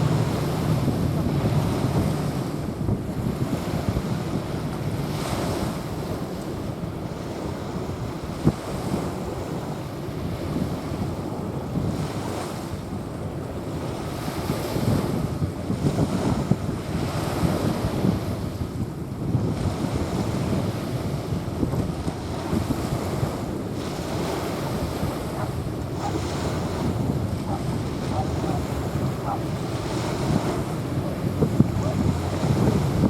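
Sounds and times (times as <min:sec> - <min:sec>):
small waves washing onto sand: 0:00.0 - 0:33.0
wind buffeting microphone: 0:00.0 - 0:33.0.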